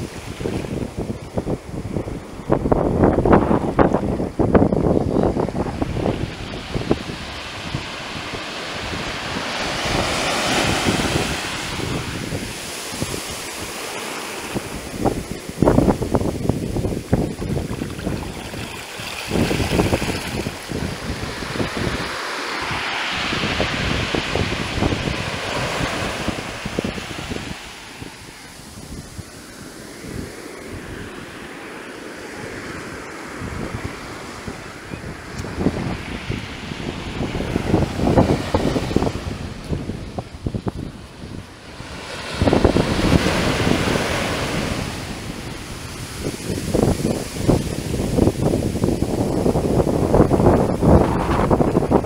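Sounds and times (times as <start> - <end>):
surf hissing on beach: 0.0 - 52.0
wind buffeting microphone: 0.0 - 52.0.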